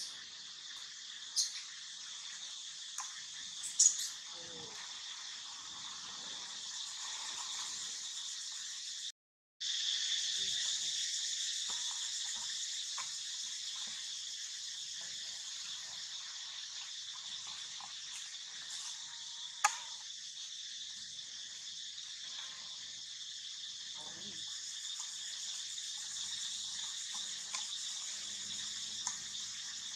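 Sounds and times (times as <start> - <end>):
insects chorus: 0.0 - 29.9.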